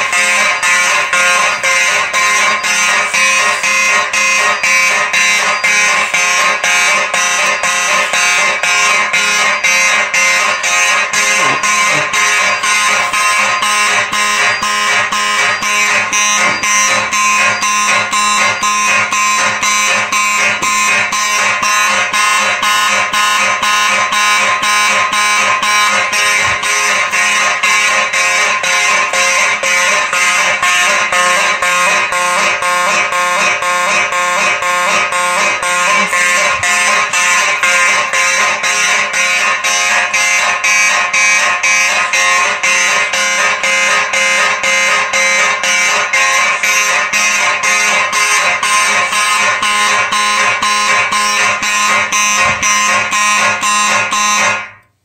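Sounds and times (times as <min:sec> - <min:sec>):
fire alarm horns pulsing: 0:00.0 - 0:55.0.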